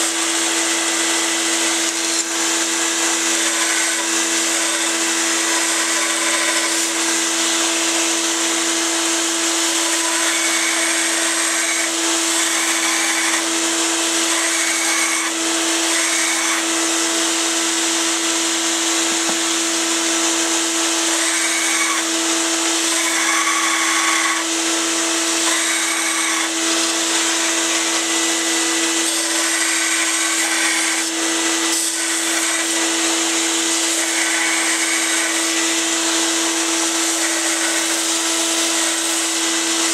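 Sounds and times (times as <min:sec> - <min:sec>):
blade grinding on belt: 0:00.0 - 0:08.0, 0:09.6 - 0:17.6, 0:18.3 - 0:39.9
belt sander running: 0:00.0 - 0:39.9
shop vacuum running: 0:00.0 - 0:39.9.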